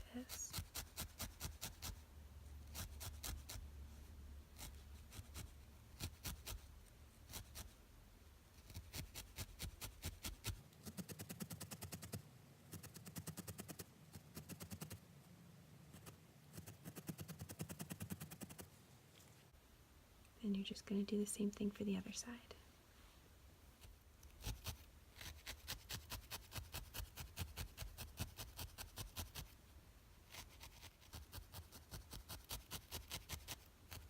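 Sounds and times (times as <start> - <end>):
felting needle poking wool: 0.0 - 7.8, 8.4 - 19.3, 23.8 - 29.6, 30.2 - 34.0.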